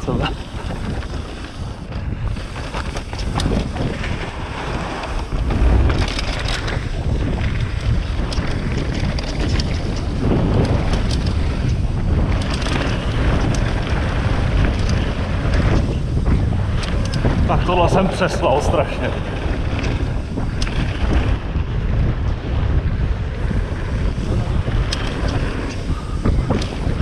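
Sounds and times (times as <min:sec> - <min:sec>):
wind buffeting microphone: 0:00.0 - 0:27.0
bike knocks and clicks: 0:00.4 - 0:18.0, 0:19.2 - 0:27.0.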